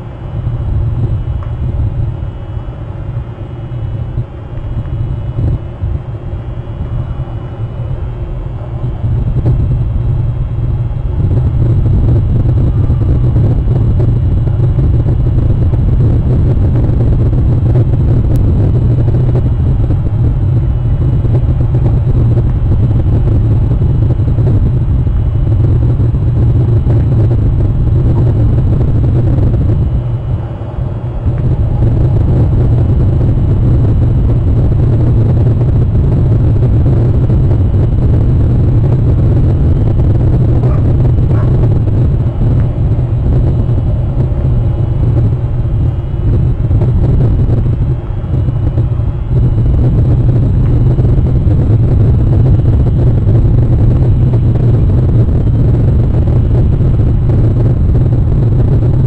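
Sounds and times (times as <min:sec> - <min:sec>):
wind blowing across microphone: 0:00.0 - 0:59.0.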